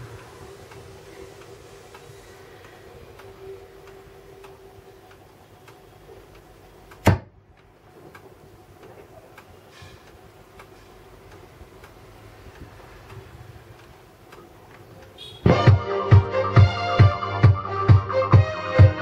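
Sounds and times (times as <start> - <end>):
record player ticking: 0.0 - 15.8.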